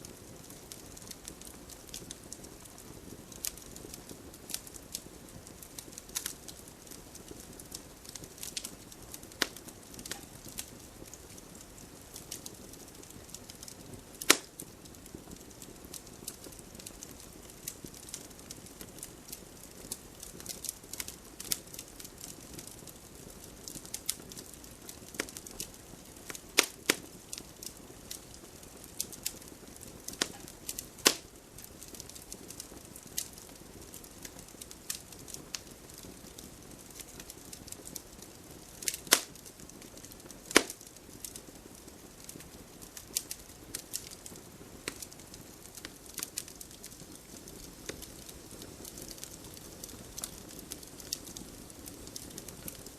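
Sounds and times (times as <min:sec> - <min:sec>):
campfire crackling: 0:00.0 - 0:52.9
sharp fire snaps: 0:00.0 - 0:52.9.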